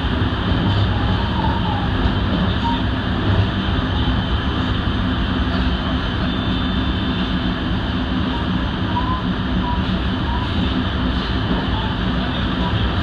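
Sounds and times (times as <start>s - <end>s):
constant low hum: 0.0s - 13.0s
train wheels rumbling on rail: 0.0s - 13.0s.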